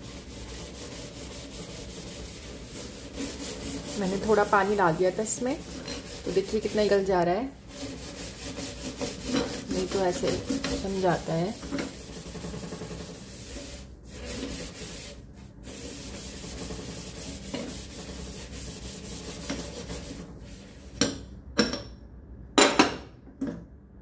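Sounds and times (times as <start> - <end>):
steel wool scouring stovetop: 0.0 - 21.1.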